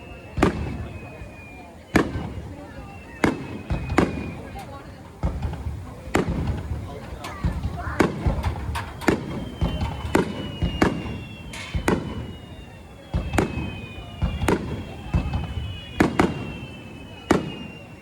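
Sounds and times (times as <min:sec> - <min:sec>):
faint falling whistle tones: 0:00.0 - 0:18.0
fireworks bangs: 0:00.0 - 0:18.0.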